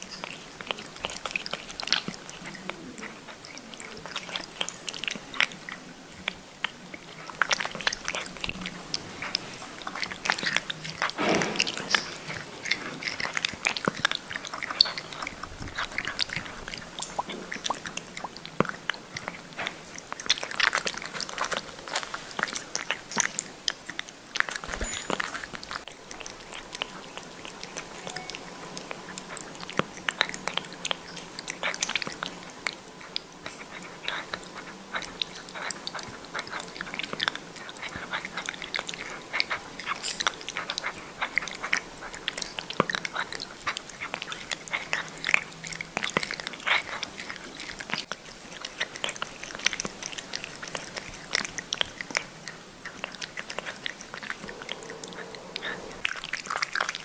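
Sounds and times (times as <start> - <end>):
cat licking and smacking: 0.0 - 57.0.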